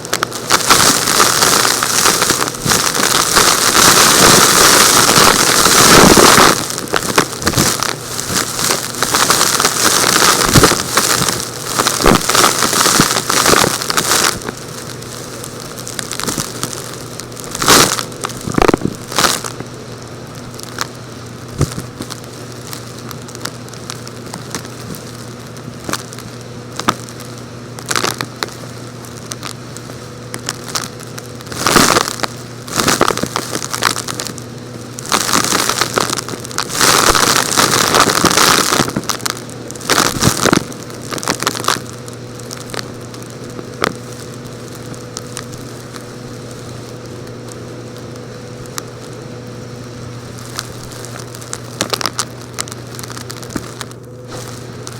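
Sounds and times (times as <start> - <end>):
rocky material being crushed: 0.0 - 26.1, 27.9 - 49.2, 50.2 - 54.9
steady low hum: 0.0 - 54.9.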